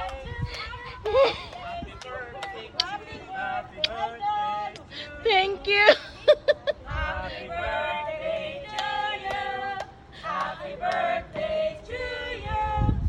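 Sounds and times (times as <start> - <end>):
group singing: 0.0 - 13.0.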